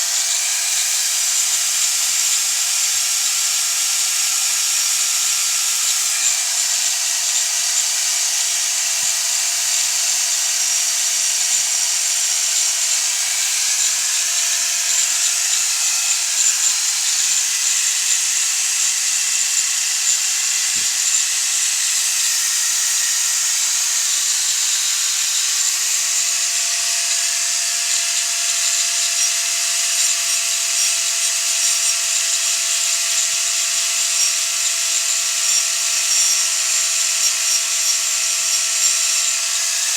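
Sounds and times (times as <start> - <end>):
power tool running: 0.0 - 39.9.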